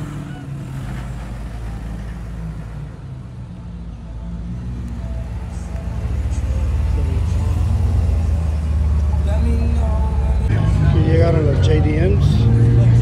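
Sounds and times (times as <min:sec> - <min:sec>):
car approaching: 0:00.0 - 0:13.0
car engines low rumble: 0:00.0 - 0:13.0.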